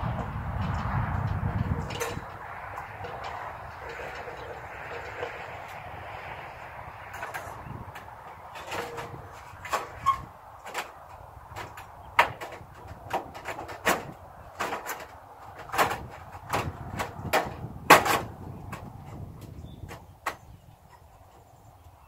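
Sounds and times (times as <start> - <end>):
sheet metal knocking and rattling: 0.0 - 20.4.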